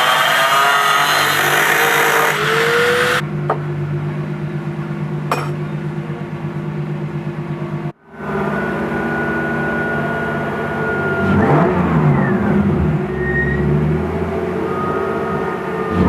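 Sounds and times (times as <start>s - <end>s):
car engine running: 2.3s - 16.0s.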